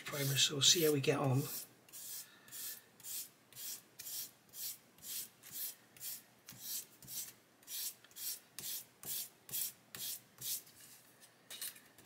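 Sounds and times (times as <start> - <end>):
sanding stick scratching metal: 0.0 - 10.6.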